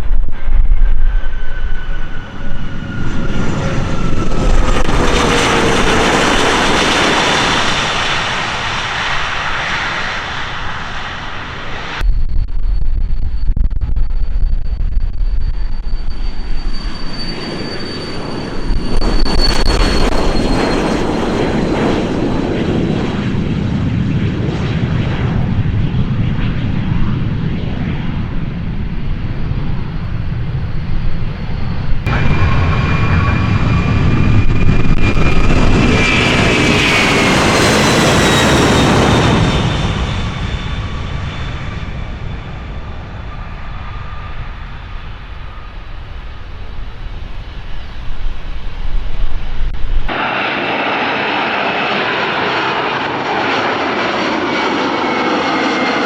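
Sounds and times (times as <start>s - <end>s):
jet engines whining: 0.0s - 12.1s, 14.0s - 56.0s.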